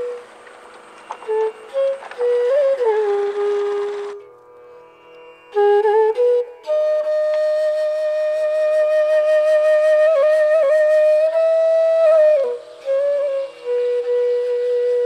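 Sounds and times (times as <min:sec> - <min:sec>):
solo flute long slow notes: 0:00.0 - 0:04.8, 0:05.5 - 0:15.0.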